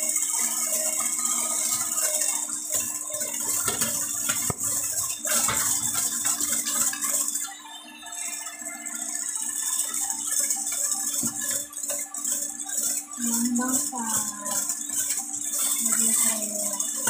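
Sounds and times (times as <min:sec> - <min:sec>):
beaters rattling against metal bowl: 0:00.0 - 0:07.5, 0:09.0 - 0:17.0
hand mixer motor hum: 0:00.0 - 0:17.0.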